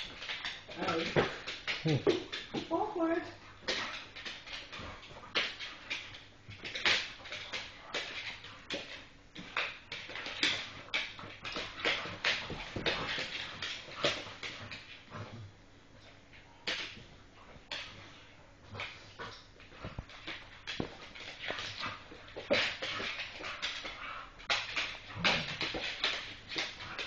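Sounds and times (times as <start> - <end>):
dogs scuffling: 0.0 - 27.0.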